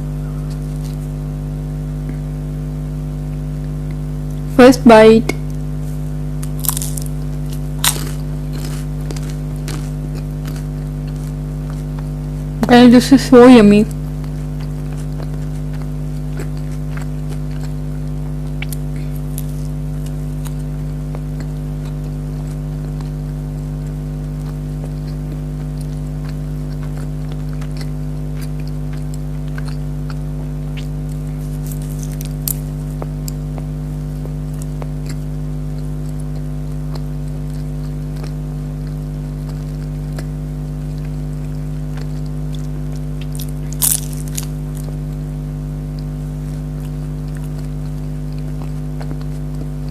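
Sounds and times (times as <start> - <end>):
crunchy eating and chewing: 0.0 - 49.9
steady electrical hum: 0.0 - 49.9.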